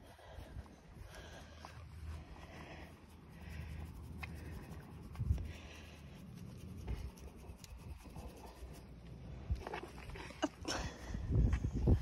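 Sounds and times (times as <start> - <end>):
hand scratching animal coat: 0.0 - 10.0.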